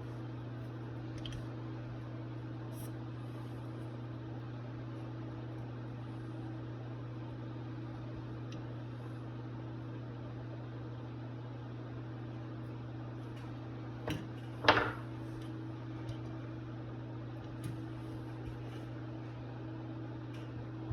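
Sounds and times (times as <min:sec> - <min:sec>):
low electrical hum: 0:00.0 - 0:20.9.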